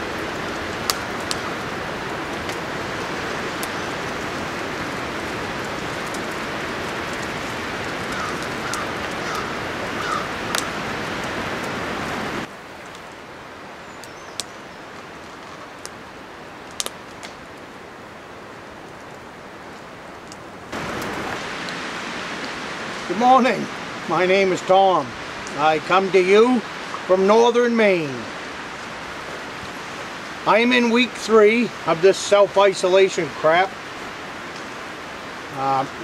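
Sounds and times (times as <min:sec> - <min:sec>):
wind through treetops: 0:00.0 - 0:36.0.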